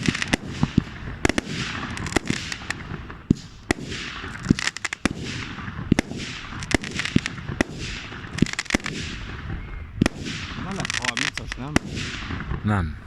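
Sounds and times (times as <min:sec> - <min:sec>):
fireworks banging: 0:00.0 - 0:13.0
fireworks crackling hiss: 0:00.0 - 0:13.0.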